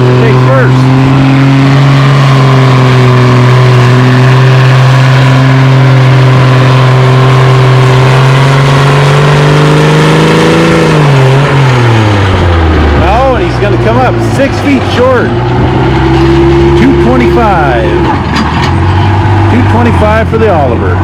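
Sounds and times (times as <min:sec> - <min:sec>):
tractor engine under full load: 0:00.0 - 0:21.0.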